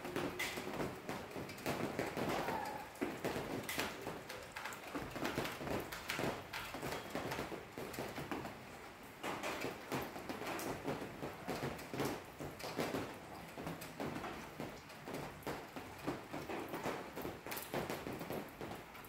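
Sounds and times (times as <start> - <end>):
raindrops tapping: 0.0 - 19.0.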